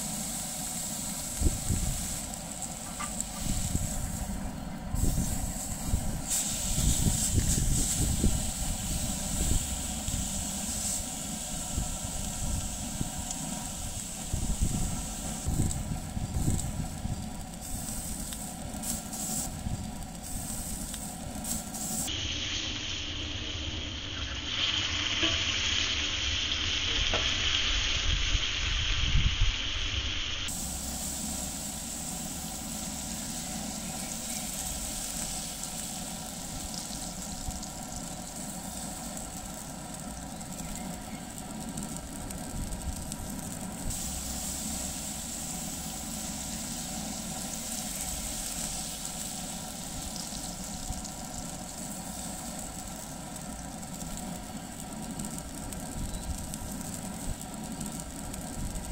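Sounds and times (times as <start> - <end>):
steak sizzling in butter: 0.0 - 4.4, 5.0 - 22.8, 30.5 - 58.9.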